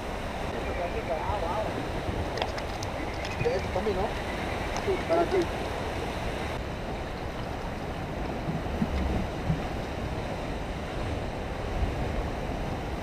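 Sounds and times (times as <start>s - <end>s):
sea surf on rocky shore: 0.0s - 13.0s.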